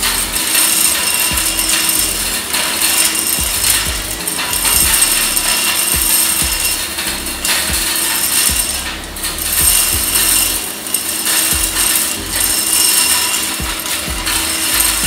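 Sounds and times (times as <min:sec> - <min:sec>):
industrial vacuum air rush: 0:00.0 - 0:15.0.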